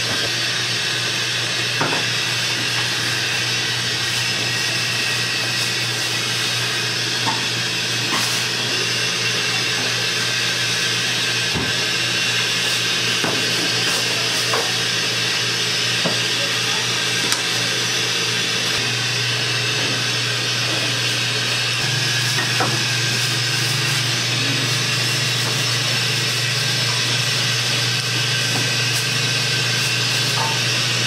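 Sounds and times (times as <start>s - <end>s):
machine humming: 0.0s - 31.0s.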